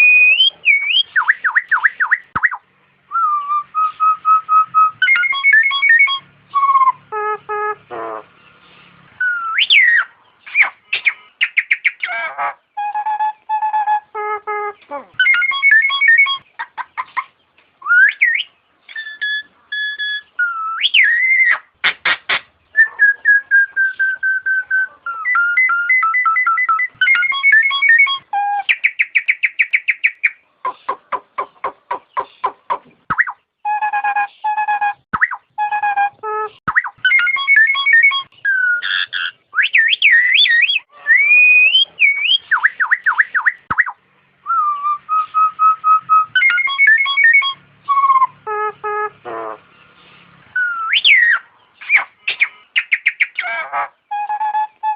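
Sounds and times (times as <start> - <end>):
myna whistling calls: 0.0 - 54.9.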